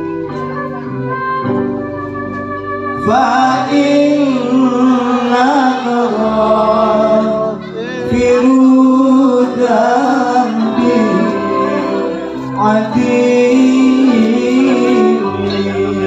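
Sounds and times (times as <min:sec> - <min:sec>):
amplified instrumental ensemble: 0:00.0 - 0:16.0
man singing into a microphone: 0:03.0 - 0:16.0.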